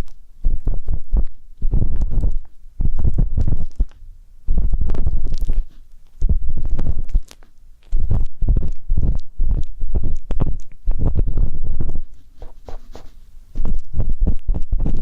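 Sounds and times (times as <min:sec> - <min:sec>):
ear pick scraping microphone: 0:00.0 - 0:03.9, 0:04.5 - 0:15.0.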